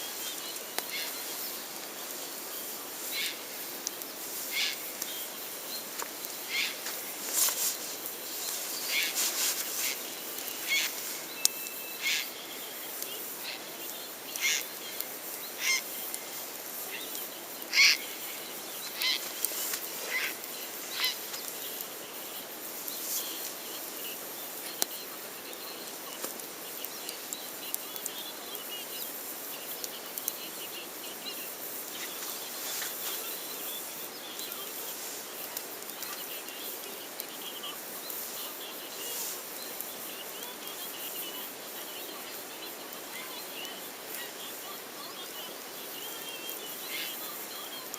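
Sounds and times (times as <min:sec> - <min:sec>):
campfire crackling and popping: 0:00.0 - 0:47.9
faint chirping: 0:00.0 - 0:47.9.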